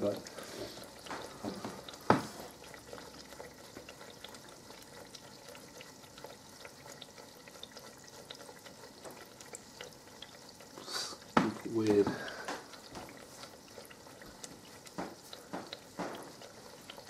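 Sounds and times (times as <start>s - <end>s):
bread sizzling in oil: 0.0s - 17.0s.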